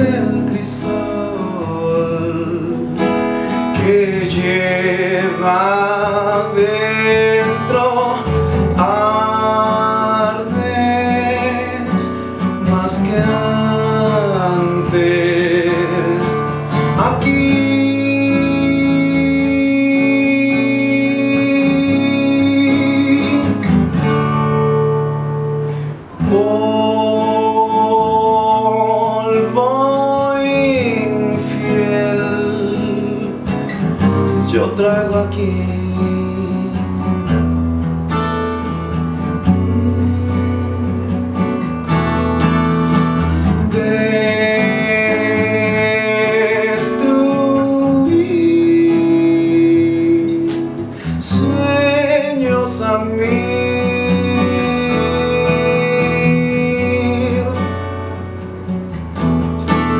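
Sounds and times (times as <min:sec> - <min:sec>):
man singing long held notes: 0:00.0 - 0:23.7, 0:25.8 - 0:33.6, 0:39.3 - 0:41.3, 0:43.2 - 0:57.8
strummed acoustic guitar: 0:00.0 - 0:59.9.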